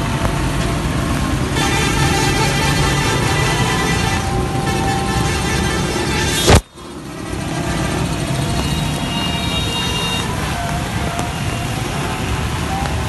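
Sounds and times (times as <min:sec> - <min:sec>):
tyres on wet road: 0:00.0 - 0:13.0
vehicle engines passing: 0:00.0 - 0:13.0.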